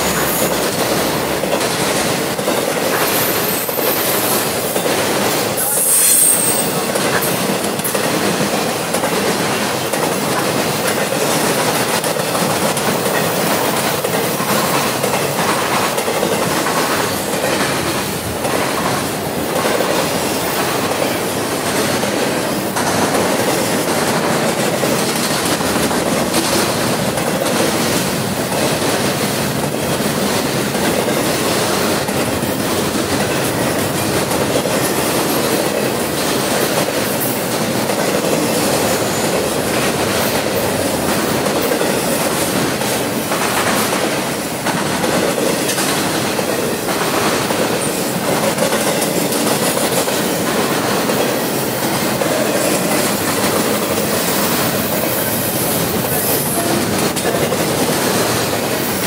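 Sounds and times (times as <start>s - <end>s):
steel train wheels clattering on rails: 0.0s - 59.0s.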